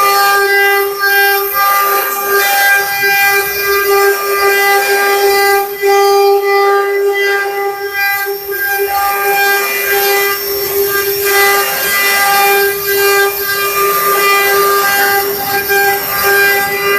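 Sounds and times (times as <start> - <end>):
router bit cutting wood: 0.0 - 16.9
router spindle high whine: 0.0 - 16.9.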